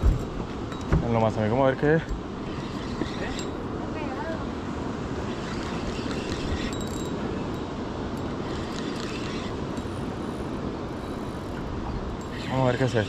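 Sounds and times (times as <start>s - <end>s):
water lapping around boat: 0.0s - 13.0s
wind on microphone: 2.1s - 13.0s.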